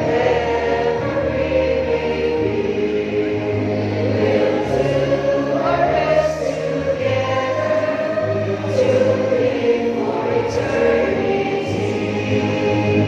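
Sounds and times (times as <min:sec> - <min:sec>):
choir singing a hymn: 0:00.0 - 0:13.0
low musical accompaniment: 0:00.0 - 0:13.0.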